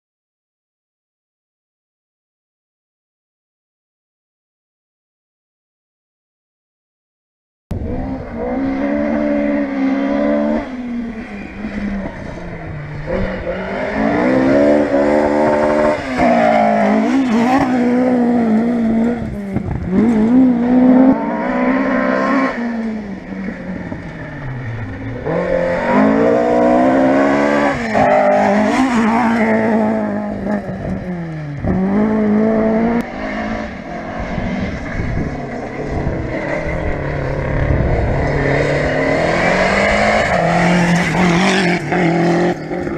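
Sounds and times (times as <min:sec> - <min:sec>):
rally car engine driven hard: 0:07.7 - 0:42.9.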